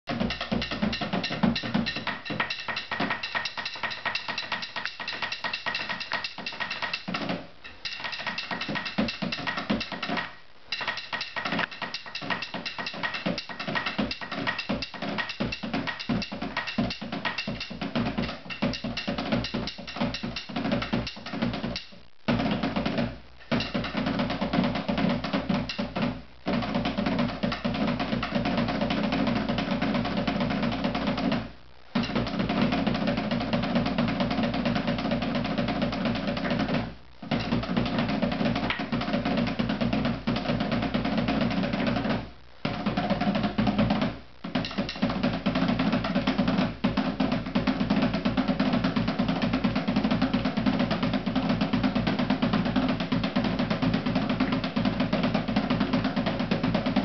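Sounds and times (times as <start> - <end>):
hand drum beaten fast: 0.1 - 57.0.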